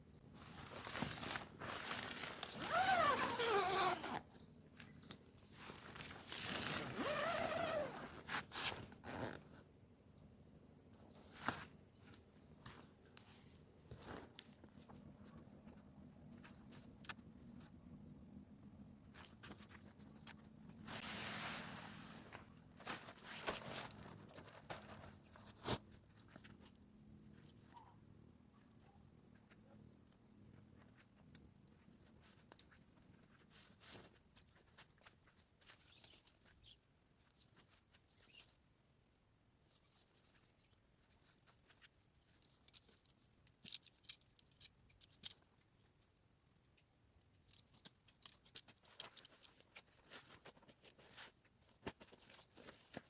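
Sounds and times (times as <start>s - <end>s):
insects trilling: 0.1s - 12.9s, 13.6s - 21.0s, 23.6s - 52.7s.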